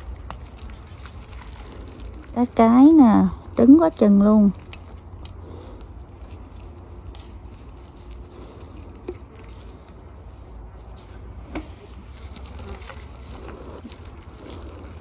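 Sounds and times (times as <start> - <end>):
steady low rumble: 0.0 - 15.0
wet handling sounds: 0.0 - 15.0.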